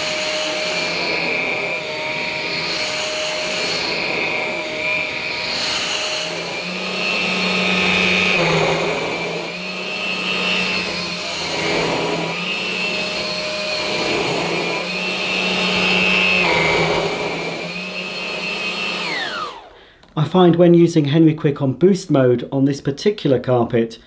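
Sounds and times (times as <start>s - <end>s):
stick vacuum motor whine: 0.0s - 20.1s.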